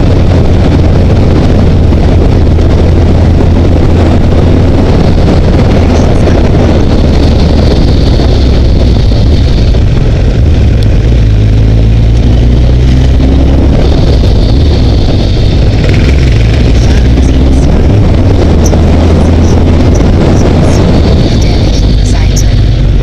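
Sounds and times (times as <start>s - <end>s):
motorcycle engine running: 0.0s - 23.0s
wind rumble on microphone: 0.0s - 23.0s.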